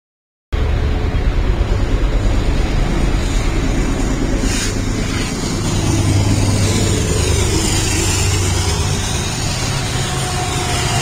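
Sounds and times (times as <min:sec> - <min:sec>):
diesel locomotives rumbling past: 0:00.6 - 0:11.0.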